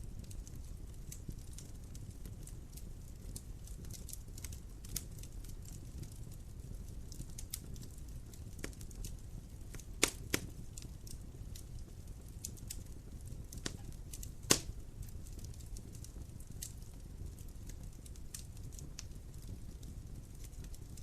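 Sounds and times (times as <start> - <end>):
wood fire crackling: 0.0 - 21.0
sharp pops from fire: 0.2 - 6.4, 7.0 - 21.0.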